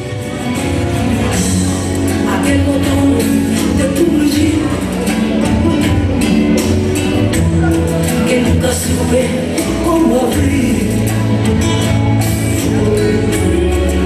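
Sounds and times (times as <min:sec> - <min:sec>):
dance music with singing: 0:00.0 - 0:14.0.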